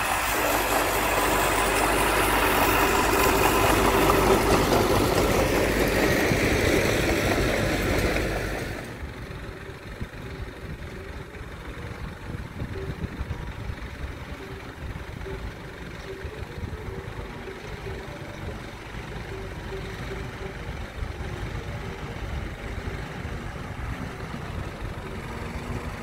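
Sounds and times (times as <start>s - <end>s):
bulldozer diesel engine running: 0.0s - 26.0s
distant dump truck engine: 0.0s - 26.0s.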